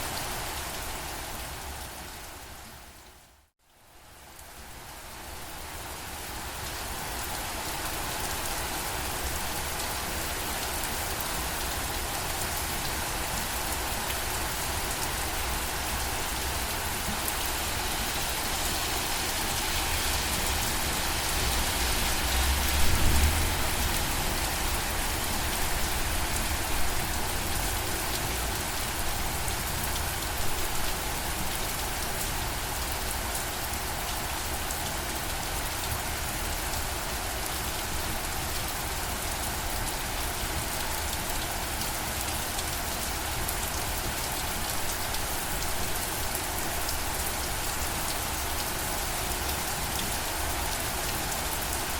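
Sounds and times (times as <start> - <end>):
rain pattering: 4.2 - 51.9.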